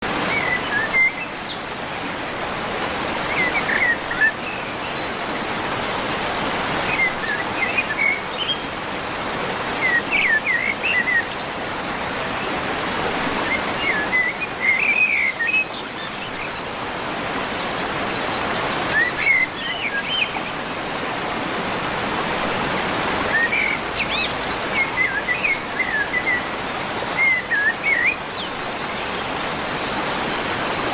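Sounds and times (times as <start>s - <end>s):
birds chirping: 0.0s - 21.2s, 21.9s - 30.9s
river water rushing: 0.0s - 30.9s.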